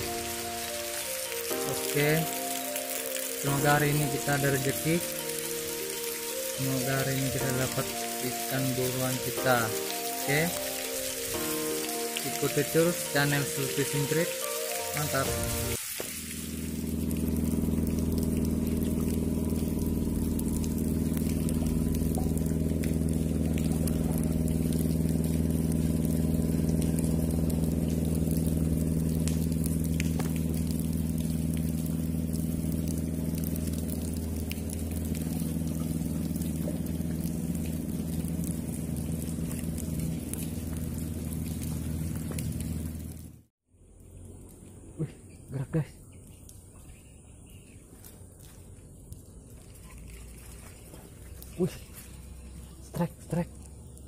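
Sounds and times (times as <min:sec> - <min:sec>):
engine droning: 0:00.0 - 0:54.0.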